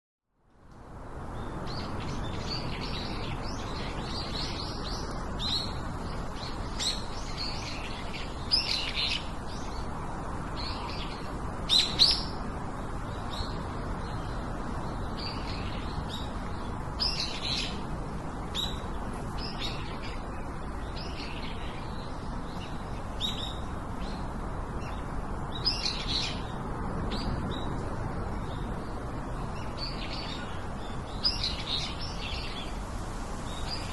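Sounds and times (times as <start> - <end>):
low background noise: 0.3 - 33.9
birds chirping: 1.3 - 32.8.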